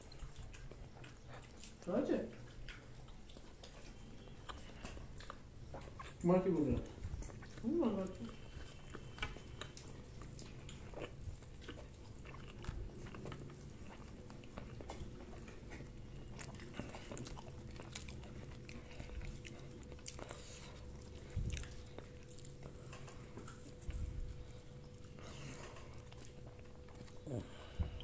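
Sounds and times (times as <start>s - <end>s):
people chewing food: 0.0s - 28.0s.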